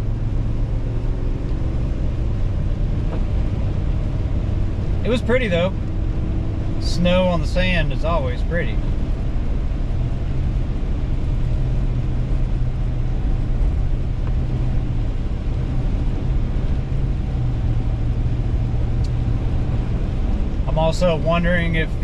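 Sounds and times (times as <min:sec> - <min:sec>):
car cabin road and engine drone: 0:00.0 - 0:22.0.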